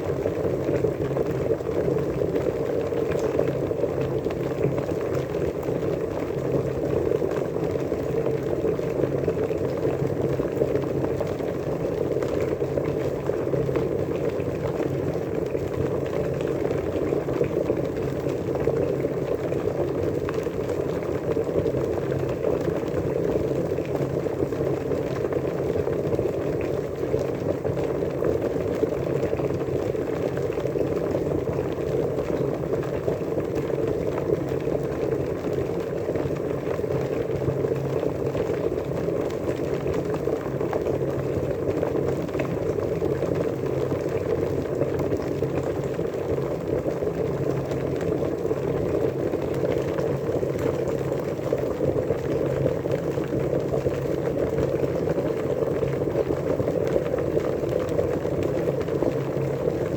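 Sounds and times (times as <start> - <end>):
water boiling and bubbling: 0.0 - 59.9.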